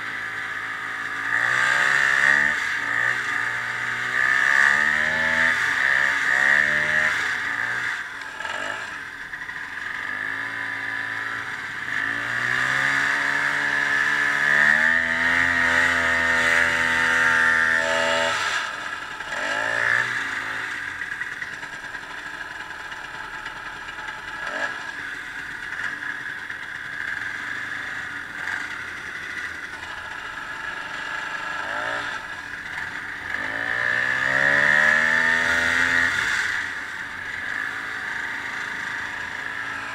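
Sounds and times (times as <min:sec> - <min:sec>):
snowmobile engine revving: 0:00.6 - 0:09.1, 0:09.8 - 0:22.9, 0:26.9 - 0:39.9.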